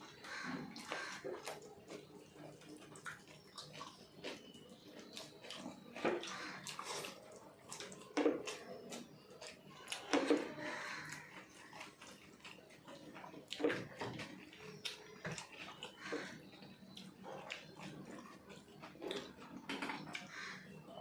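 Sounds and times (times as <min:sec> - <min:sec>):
wet chewing and smacking: 0:00.0 - 0:21.0.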